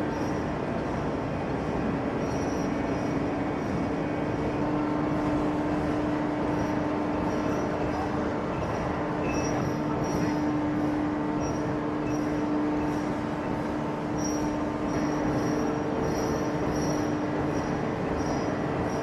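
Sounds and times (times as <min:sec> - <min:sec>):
heavy forging machinery droning: 0:00.0 - 0:19.0.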